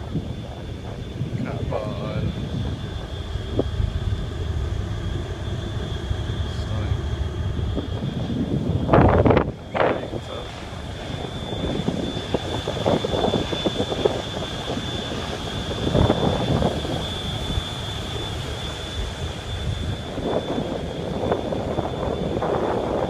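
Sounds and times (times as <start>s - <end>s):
ship engine low rumble: 0.0s - 23.0s
thin high whine: 0.0s - 23.0s
wind gusting on microphone: 0.0s - 23.0s.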